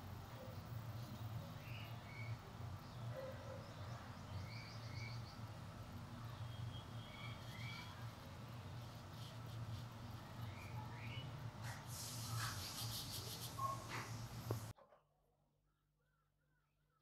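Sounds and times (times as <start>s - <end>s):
faint birds chirping: 0.0s - 14.7s
steady low hum: 0.0s - 14.8s.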